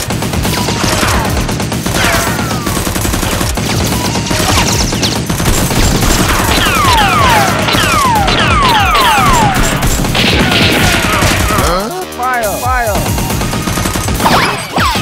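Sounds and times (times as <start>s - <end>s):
background music: 0.0s - 15.0s
rapid gunfire sound effects: 0.0s - 15.0s.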